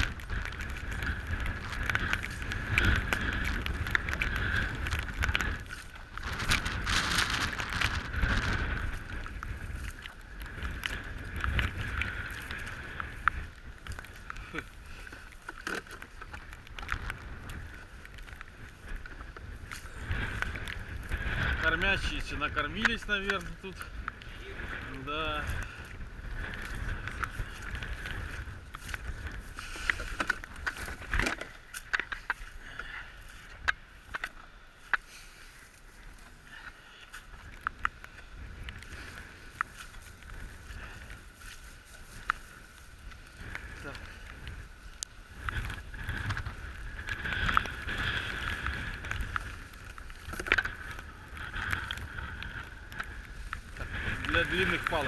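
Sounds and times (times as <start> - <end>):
wind on microphone: 0.0 - 34.4, 35.7 - 55.0
decoys rustling: 0.0 - 34.5, 35.1 - 55.0.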